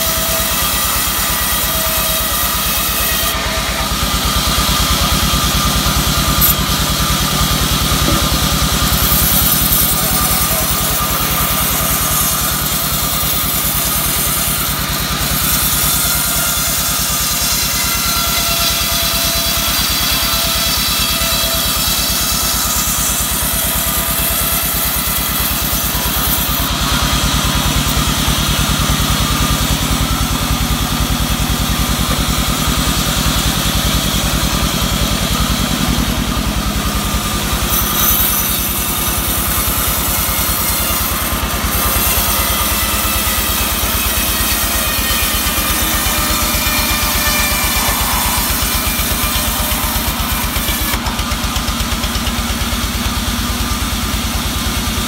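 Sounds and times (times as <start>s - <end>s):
band saw cutting logs: 0.0s - 55.0s.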